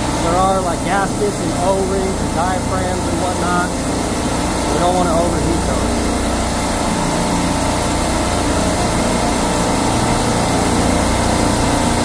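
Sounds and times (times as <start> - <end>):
refrigeration compressor hum: 0.0 - 12.0.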